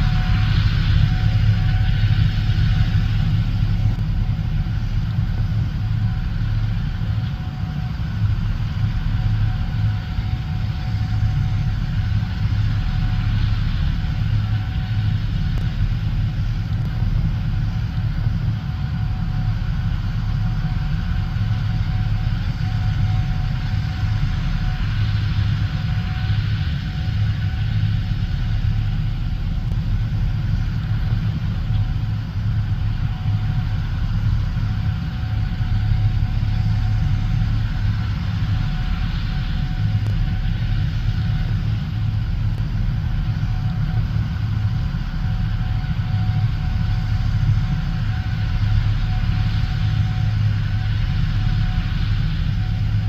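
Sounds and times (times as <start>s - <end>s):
combine harvester engine rumble: 0.0s - 53.0s
faint steady whine: 0.0s - 53.0s.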